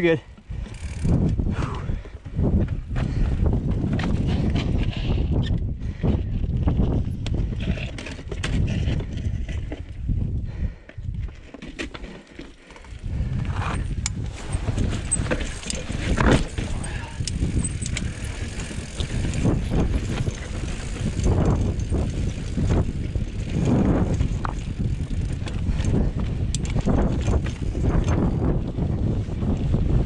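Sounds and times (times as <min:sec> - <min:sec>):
wind buffeting microphone: 0:00.0 - 0:11.4, 0:12.9 - 0:30.0
bike rattling and knocking: 0:00.0 - 0:30.0.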